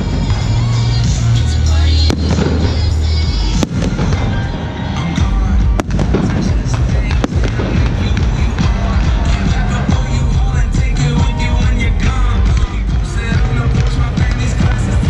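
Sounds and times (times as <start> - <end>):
loud music: 0.0 - 15.0.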